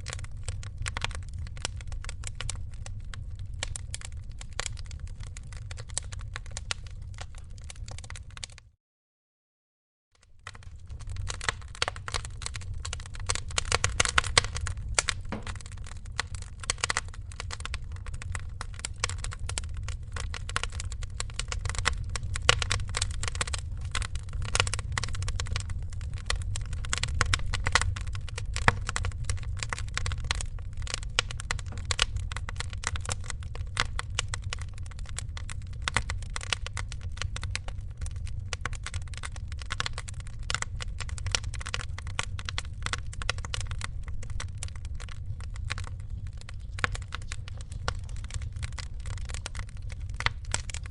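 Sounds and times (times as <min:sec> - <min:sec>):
wood fire crackling: 0:00.0 - 0:08.6, 0:10.2 - 0:50.9.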